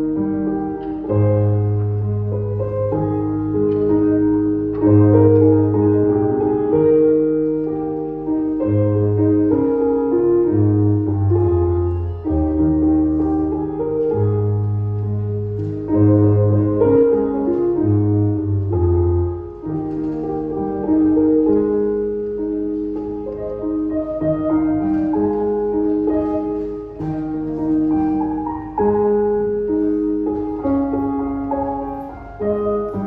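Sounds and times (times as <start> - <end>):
electronic keyboard chords: 0.0 - 33.0.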